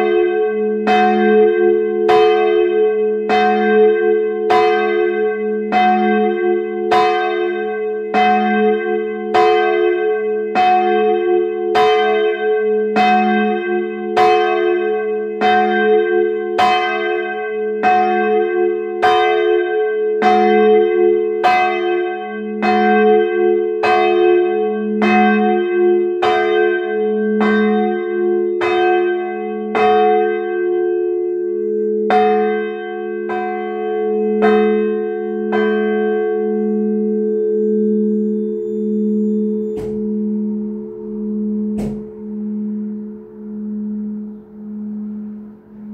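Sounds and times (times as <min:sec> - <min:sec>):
church bell ringing: 0:00.0 - 0:45.9.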